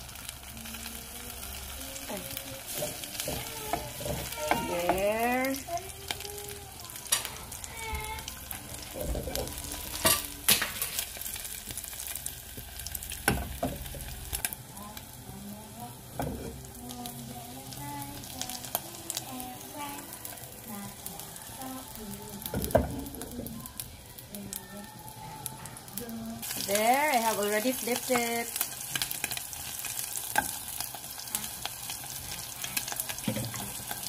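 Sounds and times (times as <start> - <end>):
omelet sizzling in a pan: 0.0 - 34.0.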